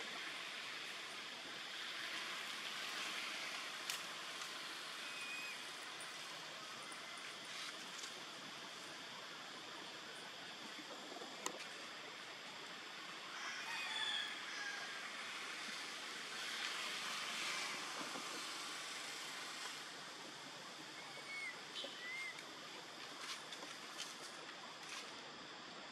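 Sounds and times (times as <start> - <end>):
faint steady hiss: 0.0 - 25.9.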